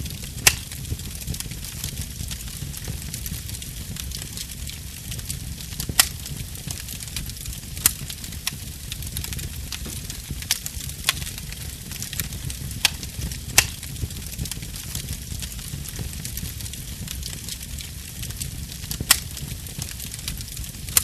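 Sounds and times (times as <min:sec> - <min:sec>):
sharp pops of burning wood: 0:00.0 - 0:21.0
wood fire crackling: 0:00.0 - 0:21.0.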